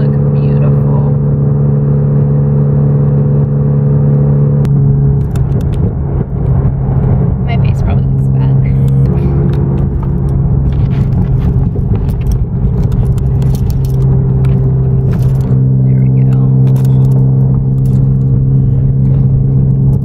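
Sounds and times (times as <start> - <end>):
car engine drone inside cabin: 0.0 - 20.0.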